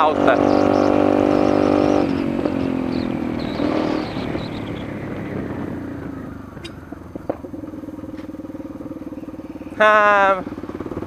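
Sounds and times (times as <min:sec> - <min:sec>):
motorcycle engine slowing to idle: 0:00.0 - 0:11.0.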